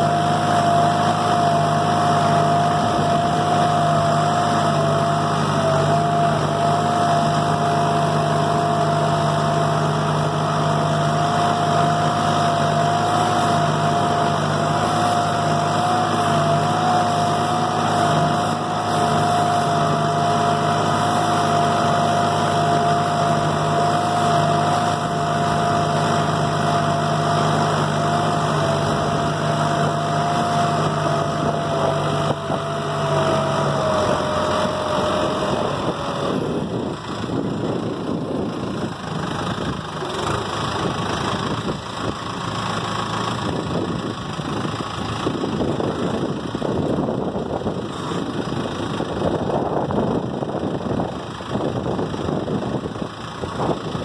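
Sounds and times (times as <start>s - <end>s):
tractor engine hum: 0.0s - 54.0s.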